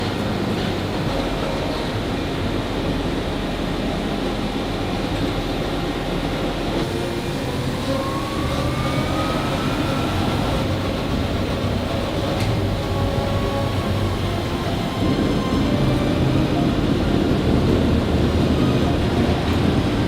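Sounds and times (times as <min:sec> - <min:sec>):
laundry machinery running: 0:00.0 - 0:20.0
faint whine rising in pitch: 0:02.4 - 0:20.0.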